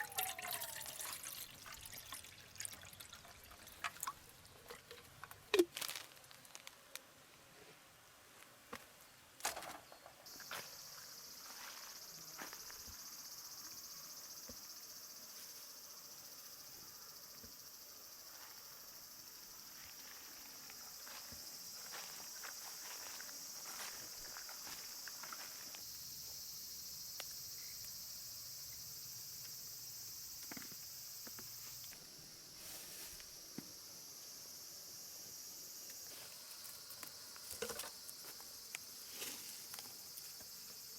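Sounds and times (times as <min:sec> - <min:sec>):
insects chorus: 0:00.0 - 0:03.8, 0:09.5 - 0:40.9.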